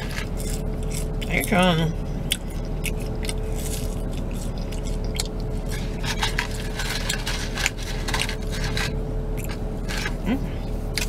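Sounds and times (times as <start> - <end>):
chewing and mouth clicks: 0.0 - 10.2
steady low hum: 0.0 - 11.0.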